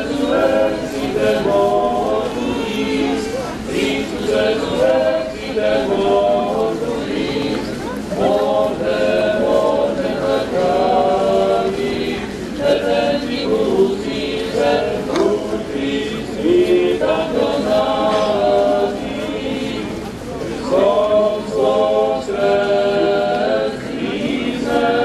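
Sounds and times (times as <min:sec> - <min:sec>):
crowd singing a hymn: 0:00.0 - 0:25.0.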